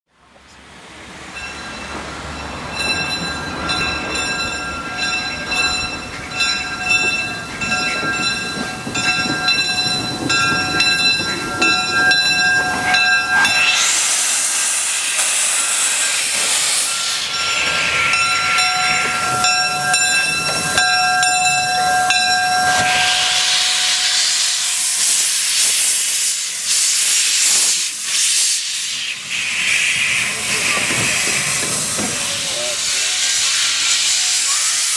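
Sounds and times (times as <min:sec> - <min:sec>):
steam hissing: 0:00.8 - 0:34.9.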